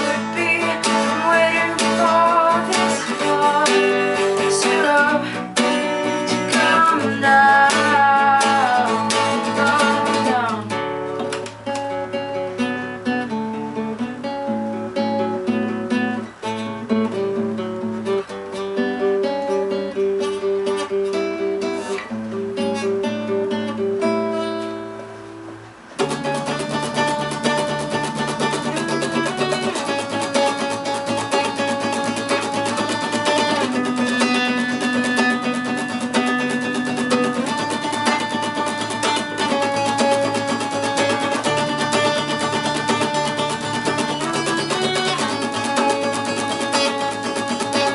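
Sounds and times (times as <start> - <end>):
band with acoustic guitars: 0.0 - 47.9.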